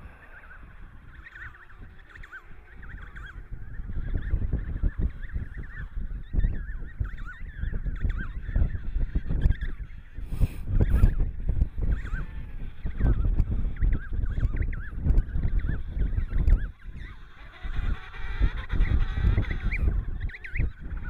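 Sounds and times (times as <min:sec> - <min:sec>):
penguin colony calling: 0:00.0 - 0:21.0
wind rumble on microphone: 0:00.0 - 0:21.0.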